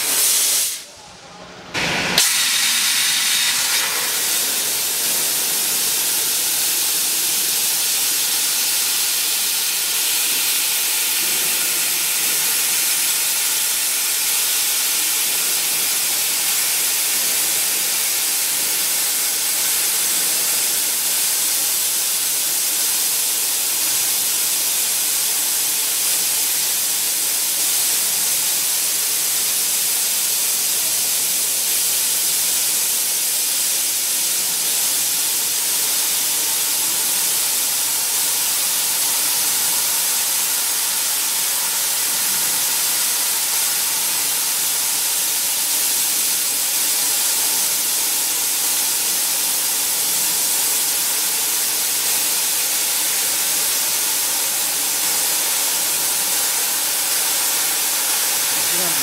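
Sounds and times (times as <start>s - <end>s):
laser cutter gas hiss: 0.0s - 1.0s, 1.7s - 59.0s.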